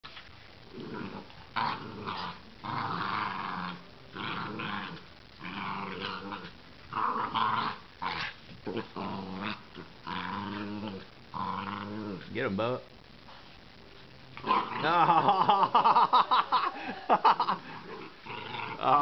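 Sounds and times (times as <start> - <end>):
dogs growling in play: 0.6 - 12.4, 14.3 - 19.0.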